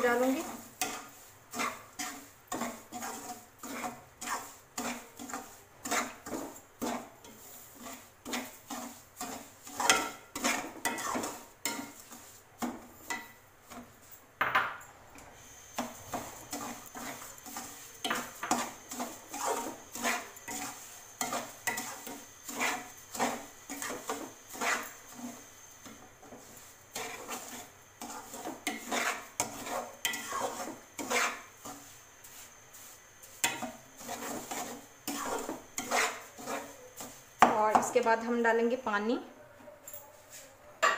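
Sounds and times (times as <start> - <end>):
metal spatula scraping metal pan: 0.0 - 13.9, 15.8 - 37.5.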